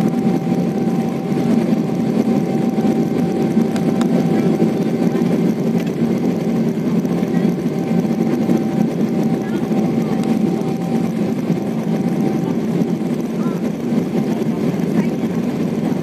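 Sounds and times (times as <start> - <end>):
airplane cabin rumble with whine: 0.0 - 16.0.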